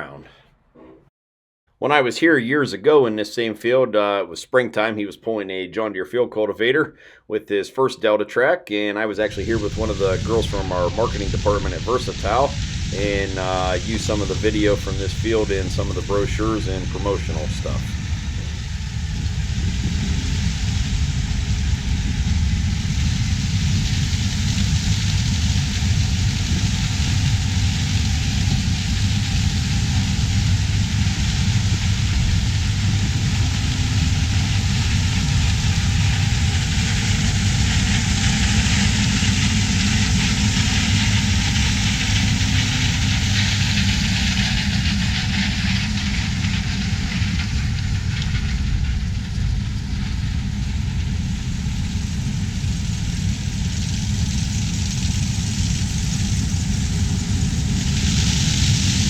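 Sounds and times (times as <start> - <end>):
broad machinery hiss: 8.9 - 59.0
harvest machinery engine rumble: 9.2 - 59.0.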